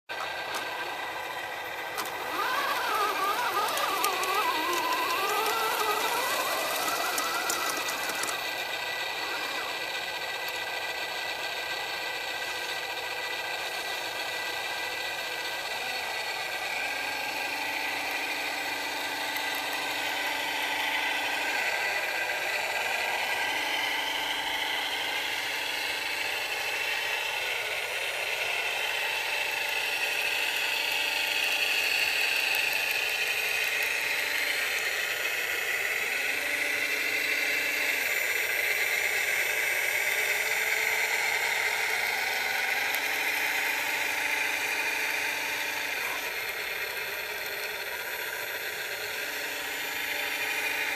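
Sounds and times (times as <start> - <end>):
electric motors whirring: 0.1 - 50.9.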